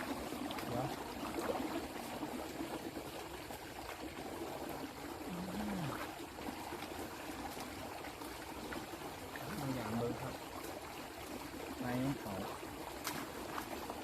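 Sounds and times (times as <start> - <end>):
runoff water trickling: 0.0 - 14.0.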